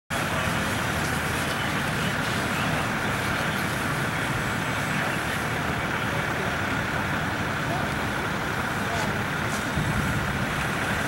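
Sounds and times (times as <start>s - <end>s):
fire engine pump drone: 0.1s - 11.0s
fire hoses spraying water: 0.1s - 11.0s.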